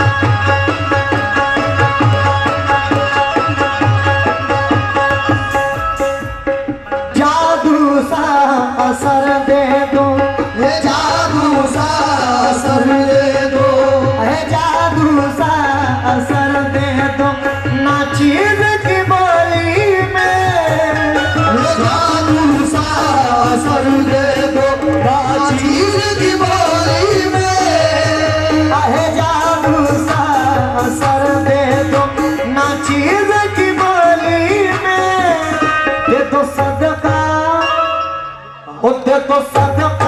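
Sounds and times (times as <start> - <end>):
harmonium: 0.0 - 40.0
tabla: 0.0 - 40.0
man singing: 7.0 - 38.0, 38.6 - 40.0.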